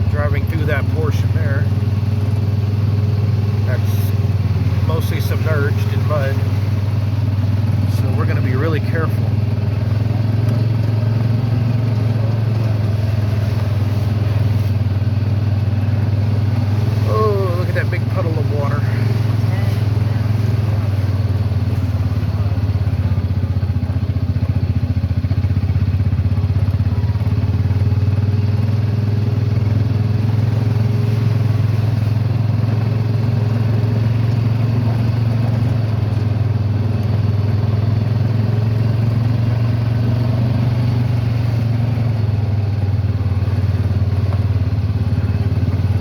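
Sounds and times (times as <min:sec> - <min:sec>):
utility vehicle engine droning: 0:00.0 - 0:46.0.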